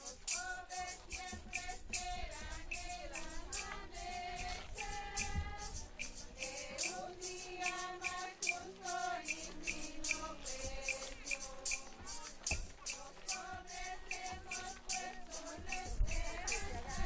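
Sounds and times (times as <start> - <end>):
hand percussion beat: 0.0 - 17.0
women and children singing: 0.0 - 17.0.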